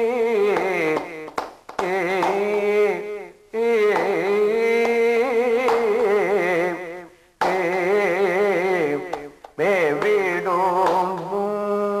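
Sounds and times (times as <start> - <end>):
man singing with held notes: 0.0 - 12.0.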